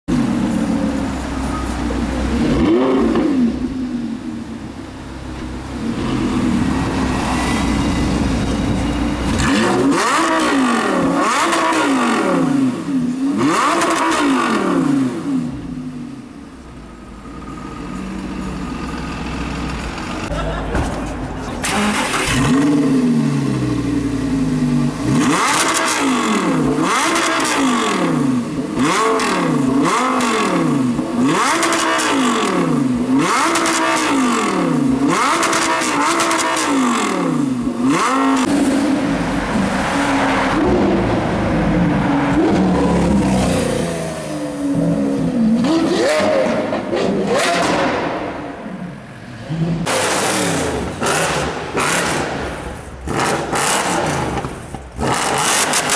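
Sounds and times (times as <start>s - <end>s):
car engine revving: 0.1s - 55.9s.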